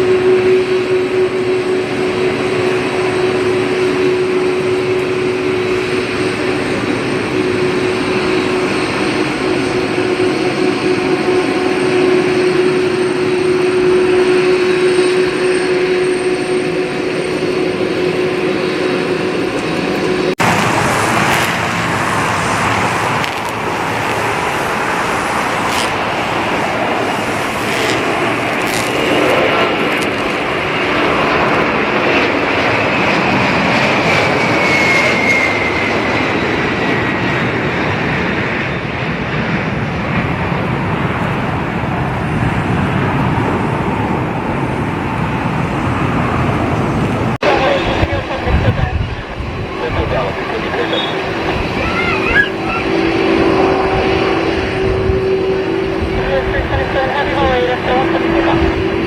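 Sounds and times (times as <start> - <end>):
high engine whine: 0.0 - 59.0
jet engine noise: 0.0 - 59.0.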